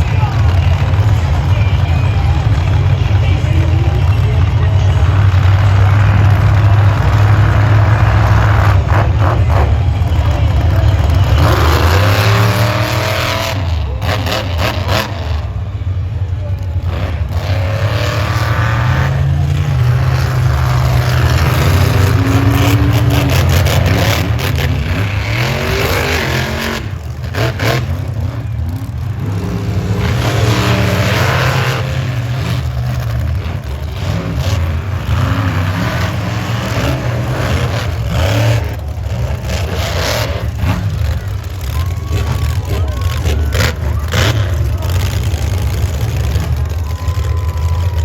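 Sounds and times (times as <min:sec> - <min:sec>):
monster truck engine revving: 0:00.0 - 0:48.0.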